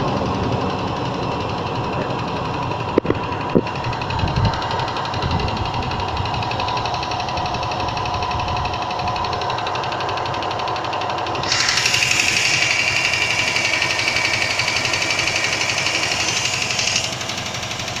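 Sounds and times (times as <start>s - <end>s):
car engine knocking: 0.0s - 18.0s.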